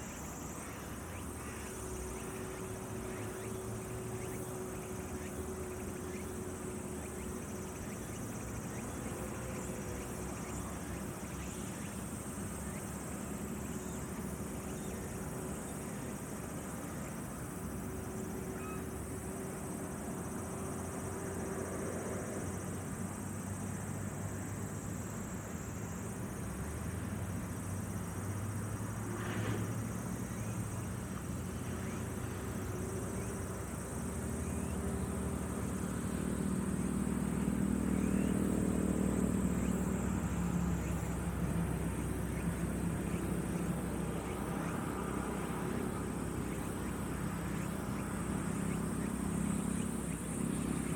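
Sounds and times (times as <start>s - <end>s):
distant vehicle engine hum: 0.0s - 50.9s.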